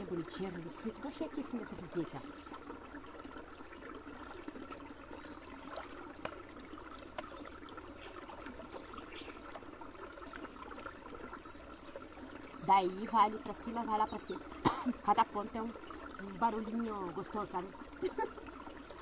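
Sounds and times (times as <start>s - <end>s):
stream trickling over rocks: 0.0s - 19.0s.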